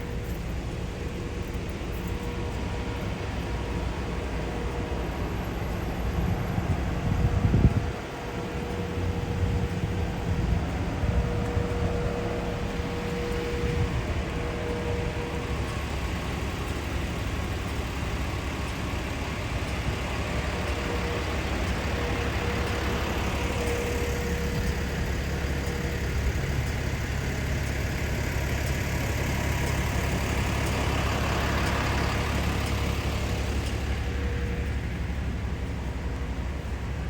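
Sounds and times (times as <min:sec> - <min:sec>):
constant hum: 0:00.0 - 0:37.0
heavy vehicle engine idling: 0:00.0 - 0:37.0.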